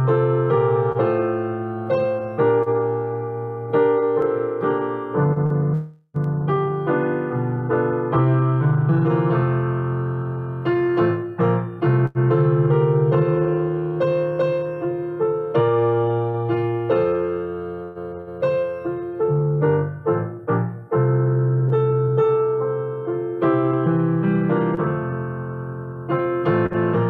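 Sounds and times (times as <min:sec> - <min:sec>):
slow piano-like chords: 0:00.0 - 0:27.0.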